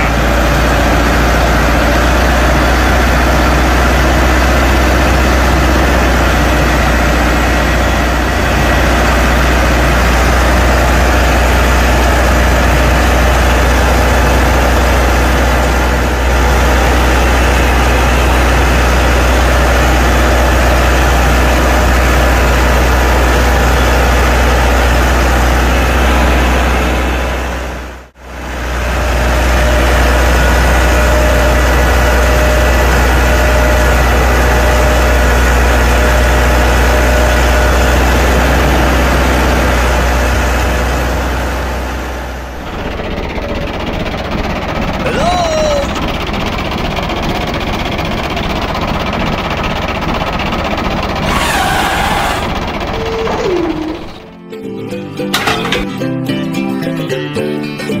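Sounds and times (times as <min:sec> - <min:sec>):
tractor engine droning: 0:00.0 - 0:57.3.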